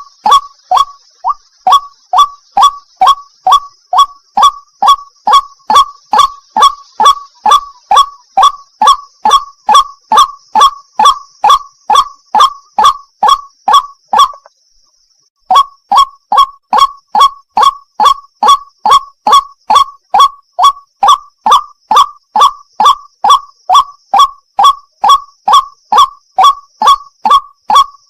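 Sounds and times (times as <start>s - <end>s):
bird harsh wak calls: 0.0s - 14.5s, 15.5s - 28.0s.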